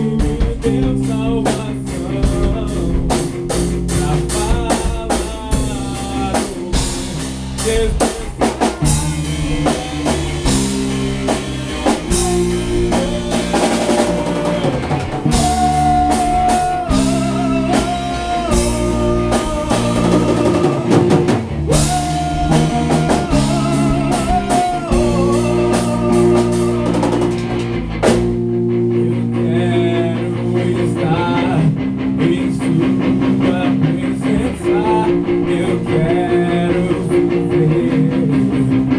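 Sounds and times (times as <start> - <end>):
instrumental rock band: 0.0 - 38.9
sliding lead guitar melody: 0.0 - 38.9.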